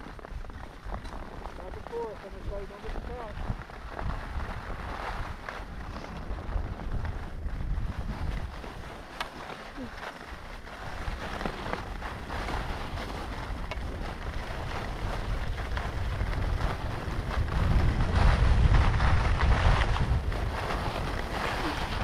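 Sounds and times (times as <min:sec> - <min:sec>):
skis scraping on snow: 0:00.0 - 0:22.0
wind buffeting microphone: 0:00.0 - 0:22.0.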